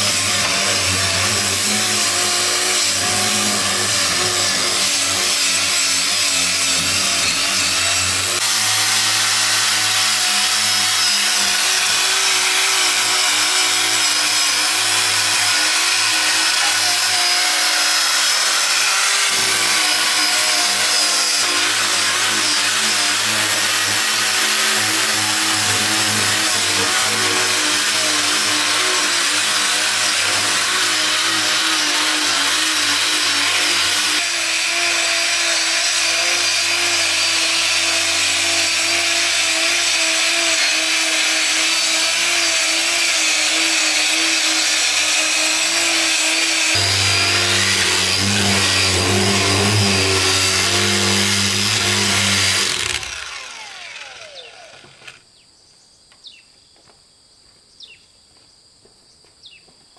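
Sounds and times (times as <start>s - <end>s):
power tool whining against wood: 0.0s - 55.2s.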